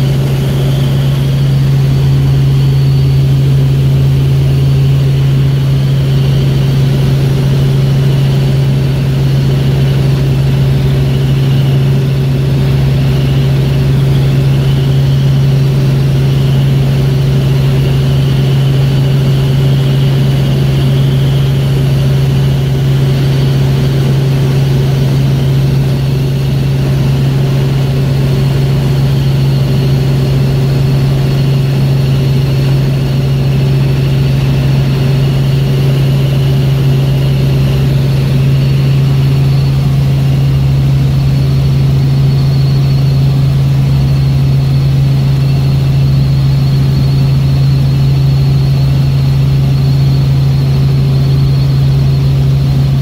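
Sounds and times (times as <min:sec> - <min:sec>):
faint high whine: 0:00.0 - 0:53.0
helicopter cabin drone: 0:00.0 - 0:53.0.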